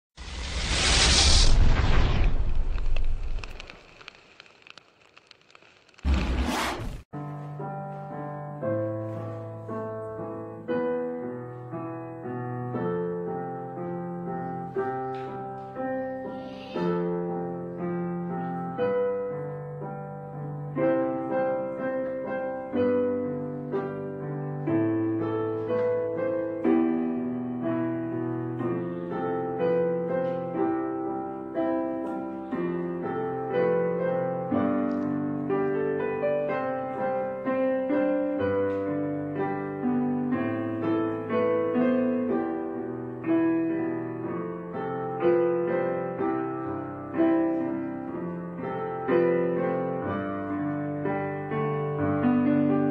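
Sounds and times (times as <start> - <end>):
gentle piano music: 7.1 - 52.9.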